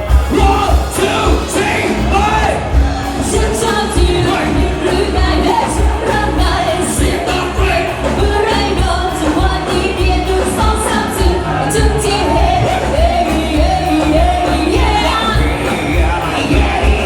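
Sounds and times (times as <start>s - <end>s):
live pop band with bass beat: 0.0s - 17.0s
person singing: 0.0s - 17.0s.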